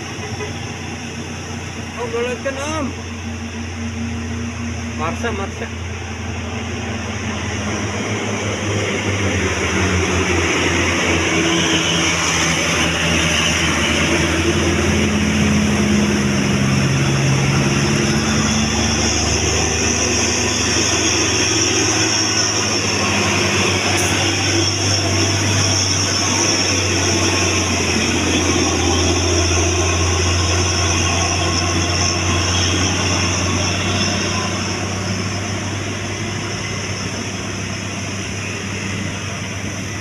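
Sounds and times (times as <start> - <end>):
bus engine running: 0.0 - 40.0.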